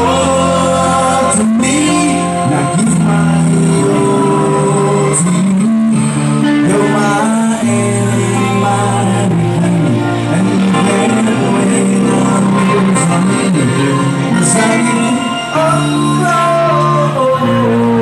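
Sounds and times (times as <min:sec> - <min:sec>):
electric guitars: 0:00.0 - 0:18.0
person singing: 0:00.0 - 0:18.0.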